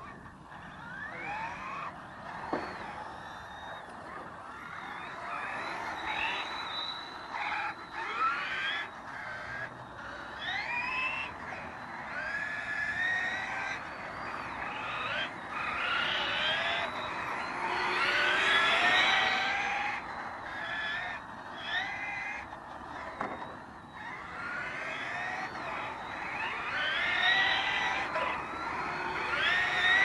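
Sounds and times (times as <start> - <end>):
electric toy car motors whining: 0.0 - 30.0.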